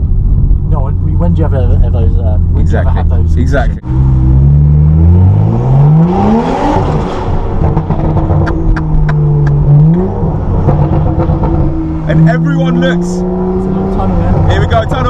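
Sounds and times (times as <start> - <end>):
car engine accelerating: 0.0 - 15.0
exhaust cracks: 0.0 - 15.0.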